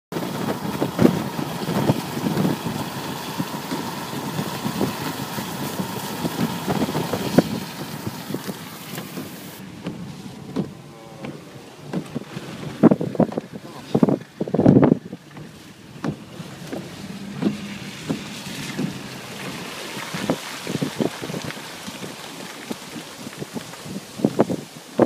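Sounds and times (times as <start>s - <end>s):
car engine running: 0.1s - 23.4s
wind and rain on microphone: 0.1s - 25.0s.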